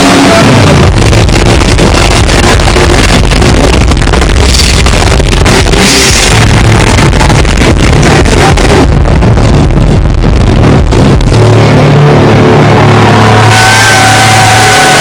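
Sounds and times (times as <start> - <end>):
distorted metal band playing: 0.0 - 15.0
drums pounding: 0.0 - 15.0
held distorted guitar chord: 0.0 - 15.0.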